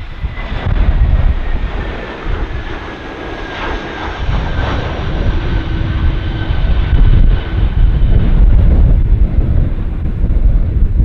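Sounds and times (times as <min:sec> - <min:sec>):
jet engines whining: 0:00.0 - 0:11.0
wind buffeting microphone: 0:00.0 - 0:11.0.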